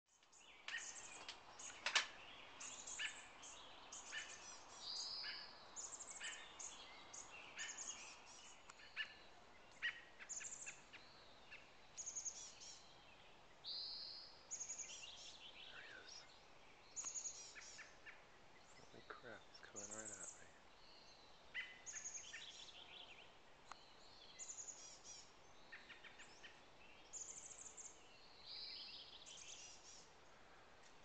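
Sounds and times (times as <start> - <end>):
songbirds chirping and singing: 0.1 - 31.0.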